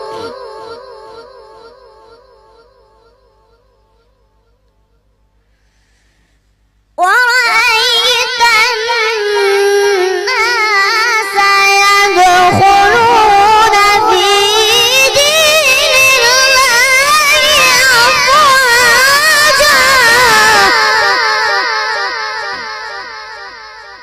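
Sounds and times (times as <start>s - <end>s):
boy reciting melodically: 0.0s - 4.0s, 7.0s - 24.0s.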